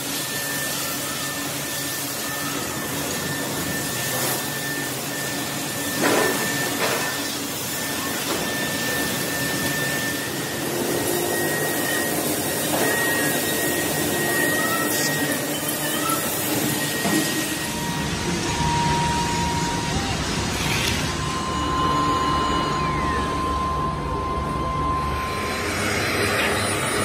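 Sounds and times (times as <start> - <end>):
loud machine rasps: 0.0 - 27.0
machine hiss: 0.0 - 27.0
thin steady whistle: 0.0 - 27.0.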